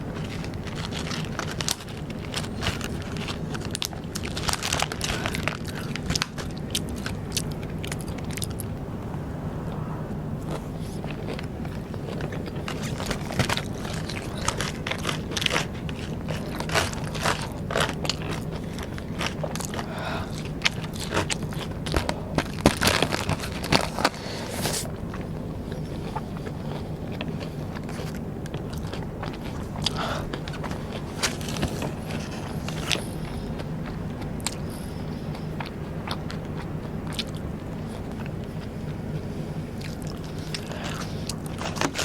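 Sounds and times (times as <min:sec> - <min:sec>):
crunching and chewing rice paper snacks: 0:00.0 - 0:08.9, 0:10.4 - 0:42.0.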